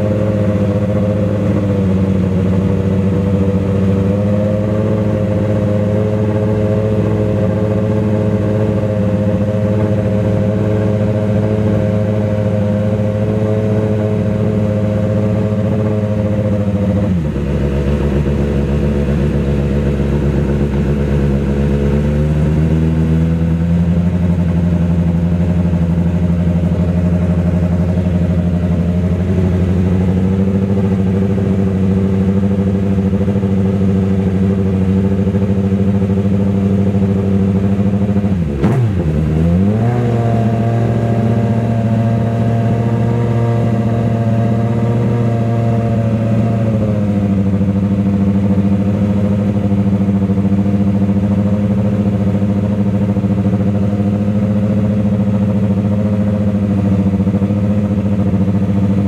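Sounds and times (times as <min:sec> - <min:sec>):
race car engine idling: 0:00.0 - 0:45.2, 0:45.8 - 0:59.0.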